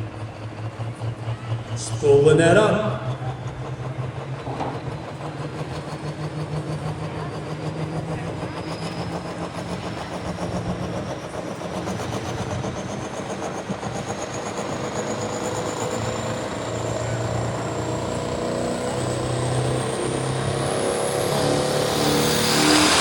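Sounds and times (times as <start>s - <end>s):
diesel engine running hard: 0.0s - 23.0s
turbo whine: 0.0s - 23.0s.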